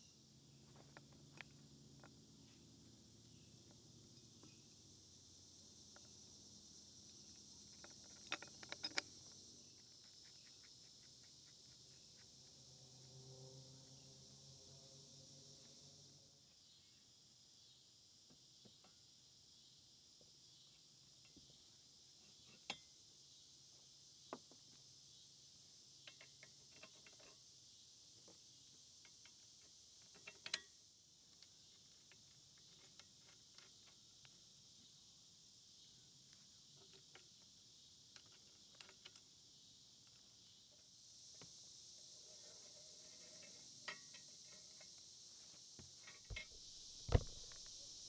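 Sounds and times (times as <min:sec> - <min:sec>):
insect chorus: 0:00.0 - 0:48.0.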